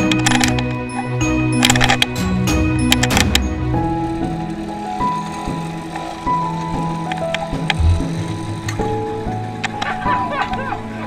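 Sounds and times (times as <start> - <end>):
background music held notes: 0.0 - 11.0.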